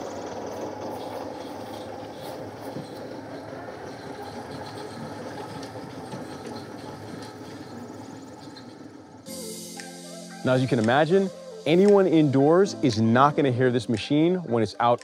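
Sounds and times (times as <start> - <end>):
reel mower quiet whir: 0.0 - 12.9.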